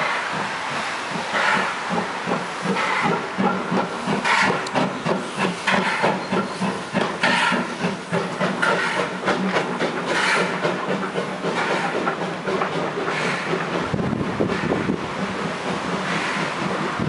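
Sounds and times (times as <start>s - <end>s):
steam engine chuffing: 0.0s - 17.0s
steam hissing: 0.0s - 17.0s.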